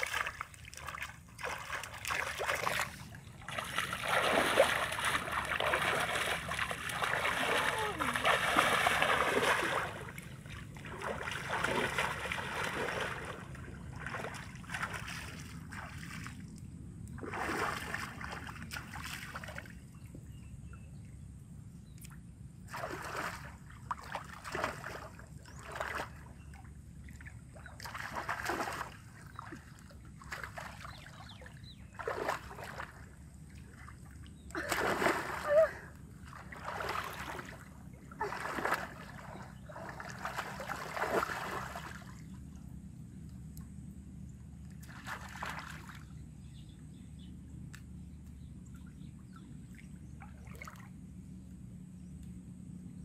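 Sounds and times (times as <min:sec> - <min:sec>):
water splashing and sloshing: 0:00.0 - 0:20.9, 0:21.9 - 0:46.6, 0:47.6 - 0:51.6.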